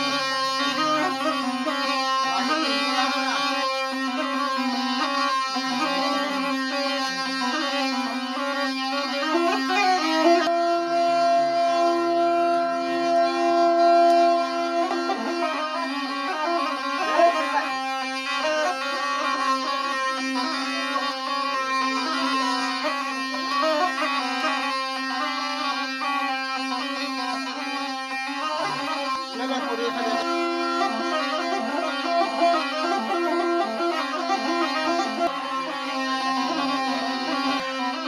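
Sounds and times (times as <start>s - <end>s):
droning note: 0.0s - 38.0s
folk melody: 0.0s - 38.0s.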